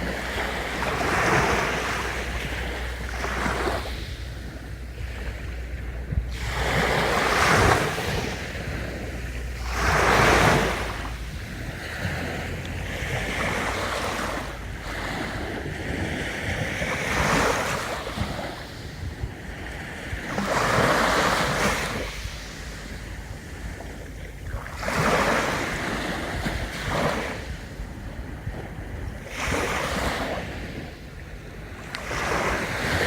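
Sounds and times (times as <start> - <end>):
sea waves breaking on beach: 0.0 - 33.0
wind rumble on microphone: 0.0 - 33.0.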